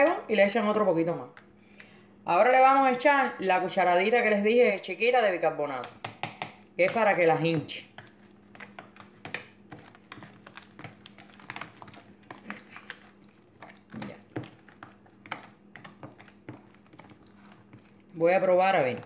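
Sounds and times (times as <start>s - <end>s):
spoon stirring batter in tub: 0.0s - 4.3s, 4.9s - 19.0s
faint steady hum: 0.0s - 19.0s.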